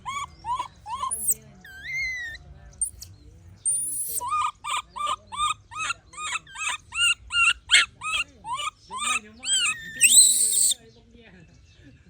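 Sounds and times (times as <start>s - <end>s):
baby monkey crying: 0.0s - 3.0s, 3.6s - 10.8s.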